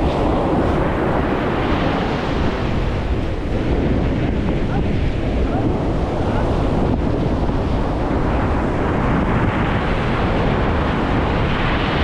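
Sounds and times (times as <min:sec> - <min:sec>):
sea surf washing on shore: 0:00.0 - 0:12.0
wind buffeting microphone: 0:00.0 - 0:12.0.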